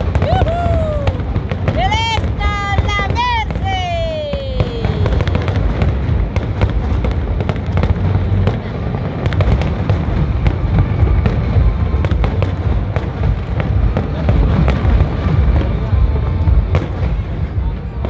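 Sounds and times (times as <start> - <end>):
deep rumble of fireworks booms: 0.0 - 18.0
fireworks crackles and pops: 0.0 - 18.0.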